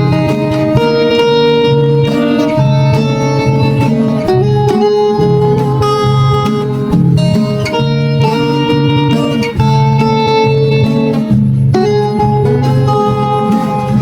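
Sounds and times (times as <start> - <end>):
plucked guitar music with beat: 0.0 - 14.0.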